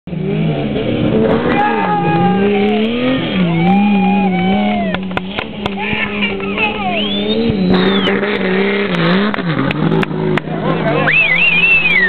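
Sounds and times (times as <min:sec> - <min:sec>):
rally car engine revving: 0:00.1 - 0:12.0.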